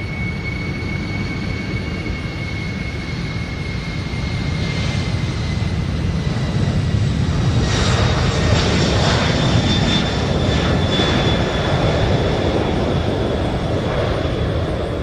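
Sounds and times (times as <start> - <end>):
jet engines rumbling and whining: 0.0 - 15.0
loud rush of jet noise: 0.0 - 15.0.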